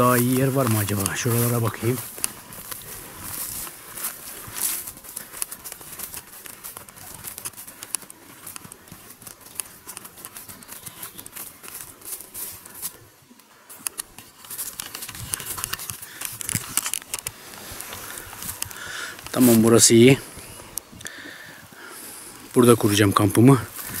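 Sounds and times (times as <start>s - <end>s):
footsteps through grass: 0.0s - 24.0s
rustling and crackling undergrowth: 0.0s - 24.0s.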